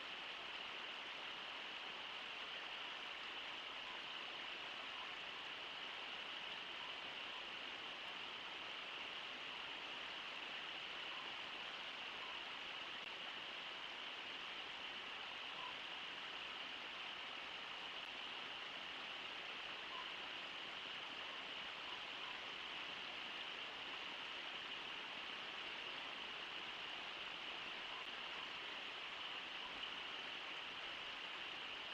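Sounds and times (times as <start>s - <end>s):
river pouring over waterfall: 0.0s - 31.9s.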